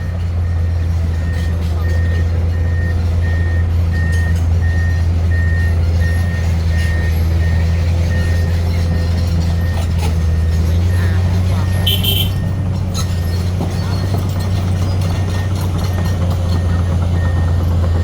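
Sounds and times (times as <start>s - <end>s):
excavator diesel engine running: 0.0s - 18.0s
travel alarm beeping: 0.4s - 9.0s, 9.6s - 12.6s, 15.2s - 18.0s.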